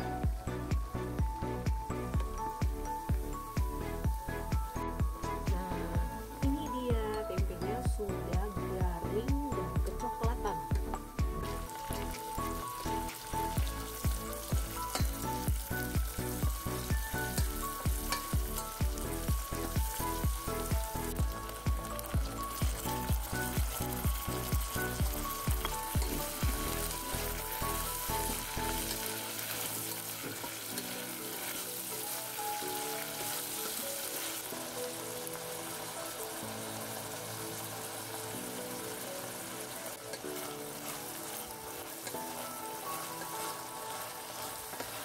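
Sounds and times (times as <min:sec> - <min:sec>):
background music with steady beat: 0:00.0 - 0:45.0
vegetables sizzling in oil: 0:00.0 - 0:45.0.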